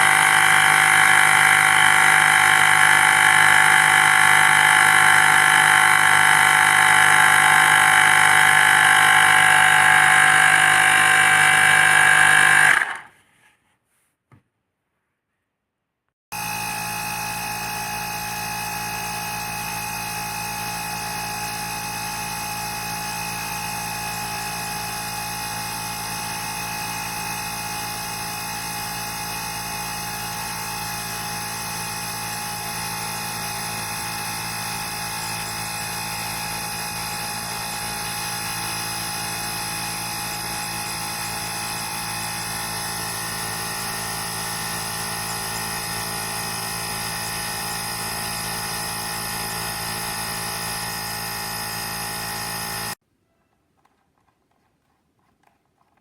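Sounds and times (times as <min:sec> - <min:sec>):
tyre inflator compressor droning: 0:00.0 - 0:13.2, 0:16.3 - 0:53.0.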